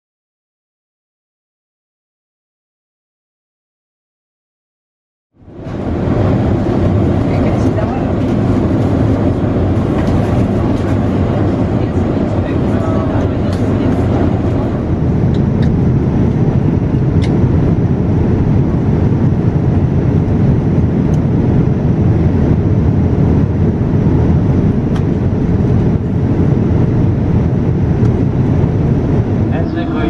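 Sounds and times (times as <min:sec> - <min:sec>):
airliner cabin rumble: 0:05.4 - 0:30.0.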